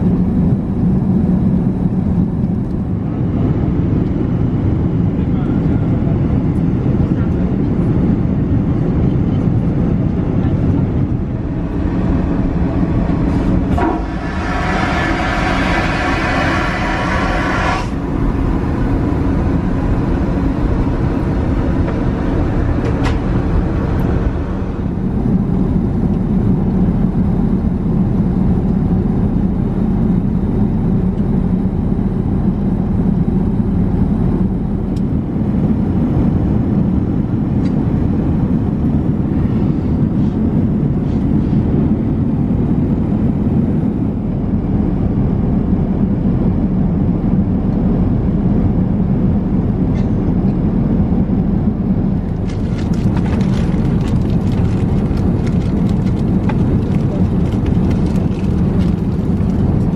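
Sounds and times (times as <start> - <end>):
aircraft cabin rumble: 0.0 - 59.9.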